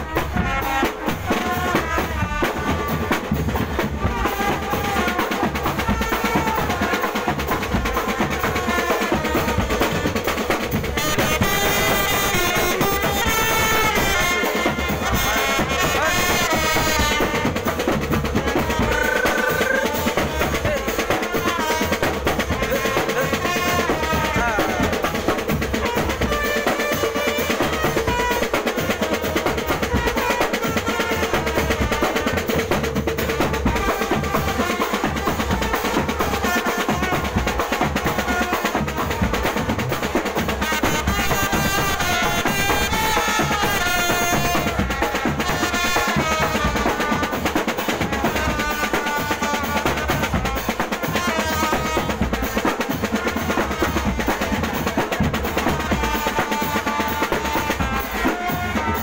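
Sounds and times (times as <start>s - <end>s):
bass drums: 0.0s - 59.0s
cymbals: 0.0s - 59.0s
snare drums: 0.0s - 59.0s
trumpets playing melody: 0.0s - 59.0s.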